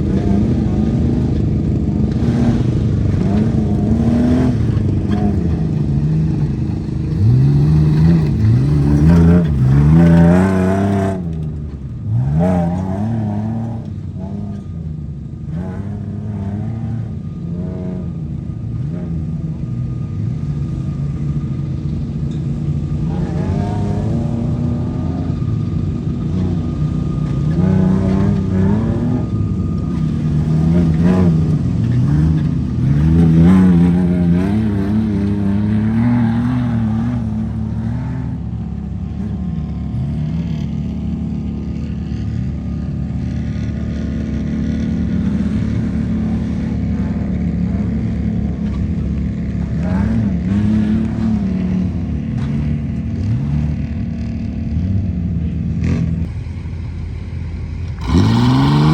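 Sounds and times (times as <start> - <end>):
truck engine revving: 0.0 - 58.9.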